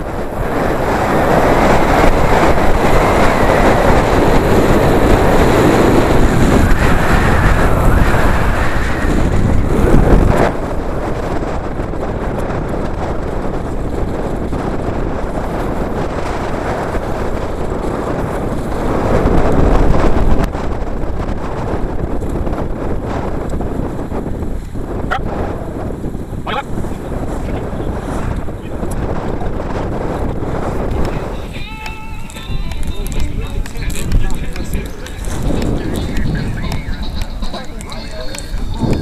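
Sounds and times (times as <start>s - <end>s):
tyre noise on road: 0.0s - 39.0s
wind rushing over microphone: 0.0s - 39.0s.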